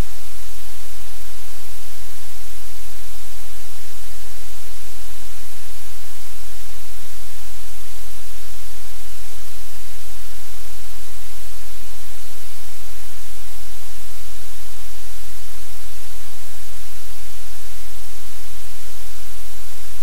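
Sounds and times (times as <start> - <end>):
loud static hiss: 0.0 - 20.0.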